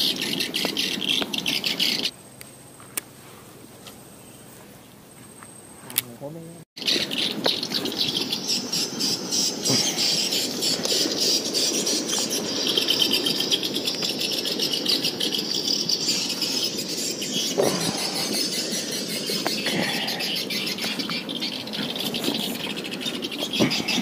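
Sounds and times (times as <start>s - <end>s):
birds twittering chorus: 0.0s - 24.0s.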